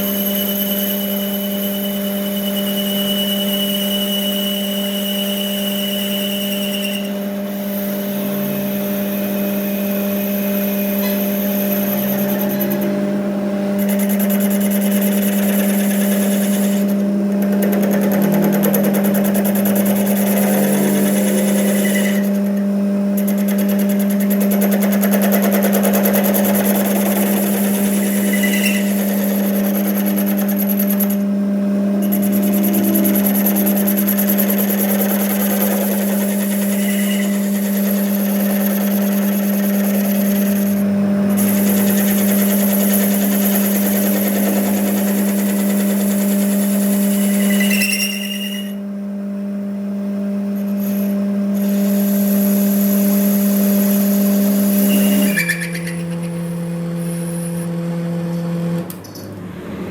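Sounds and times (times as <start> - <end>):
workshop machinery humming: 0.0 - 59.9.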